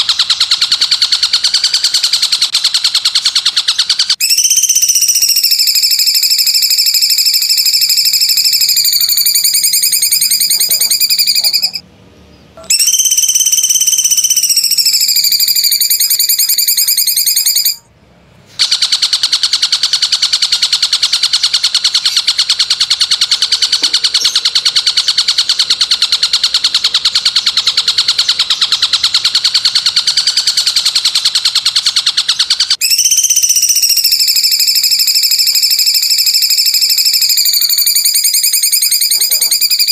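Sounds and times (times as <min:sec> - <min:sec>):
fast buzzing trill: 0:00.0 - 0:11.8, 0:12.6 - 0:17.9, 0:18.7 - 0:39.9
shrill held bird notes: 0:00.0 - 0:17.9, 0:18.6 - 0:39.9.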